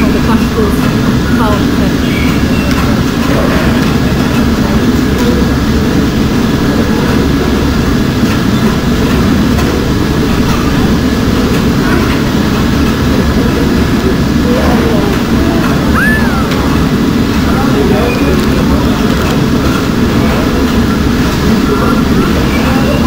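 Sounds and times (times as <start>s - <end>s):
factory machinery rumbling: 0.0s - 23.0s.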